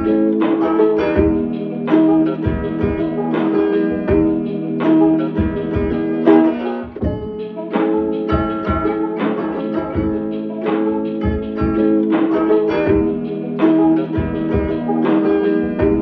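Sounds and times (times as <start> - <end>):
plucked guitar tune: 0.0 - 16.0
steady beat: 0.0 - 16.0.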